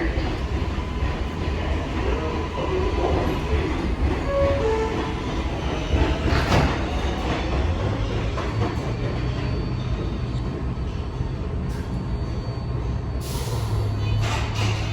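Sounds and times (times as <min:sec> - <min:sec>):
subway train rumbling: 0:00.0 - 0:14.9.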